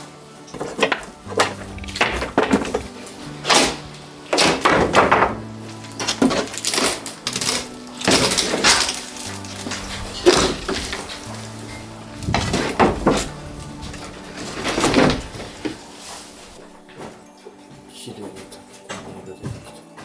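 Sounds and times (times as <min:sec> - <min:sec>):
wood cracking and clattering: 0:00.0 - 0:17.6
background music: 0:00.0 - 0:20.0.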